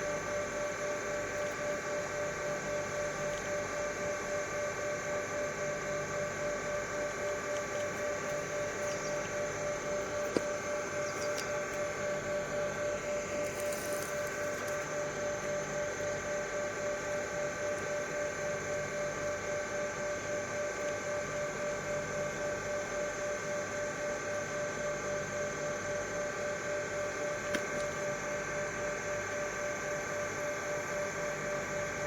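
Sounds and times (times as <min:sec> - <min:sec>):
steady multi-pitch hum: 0:00.0 - 0:32.0.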